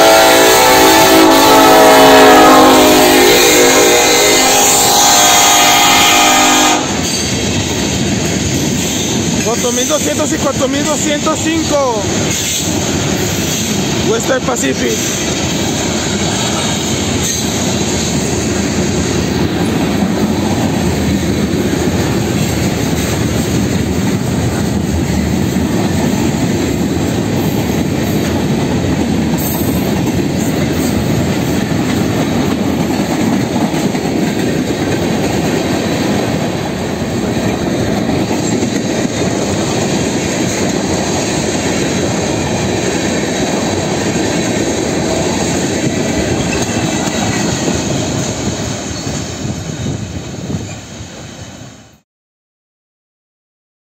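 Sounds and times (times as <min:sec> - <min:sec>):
steel wheels rolling on rails: 0:07.0 - 0:51.1.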